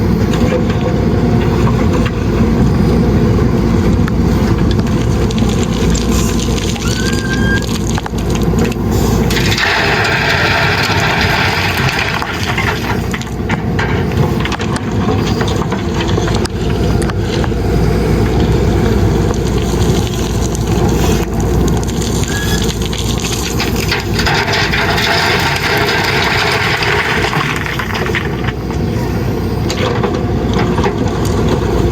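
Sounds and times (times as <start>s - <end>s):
diesel engine running under load: 0.0s - 31.9s
gravel crunching and clattering: 0.0s - 31.9s.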